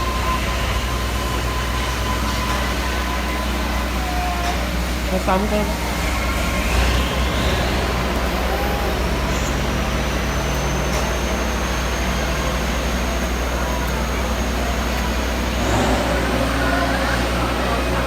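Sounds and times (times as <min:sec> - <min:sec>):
milking machinery humming: 0:00.0 - 0:18.0.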